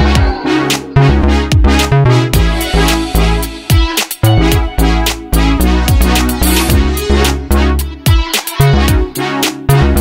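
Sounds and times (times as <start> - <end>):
electronic music with deep bass: 0.0 - 10.0.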